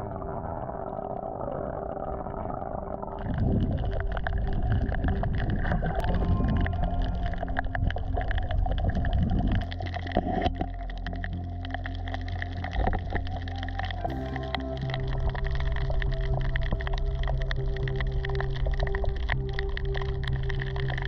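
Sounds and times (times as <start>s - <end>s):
muffled underwater water movement: 0.0s - 21.0s
sharp underwater clicks and crackles: 3.1s - 21.0s.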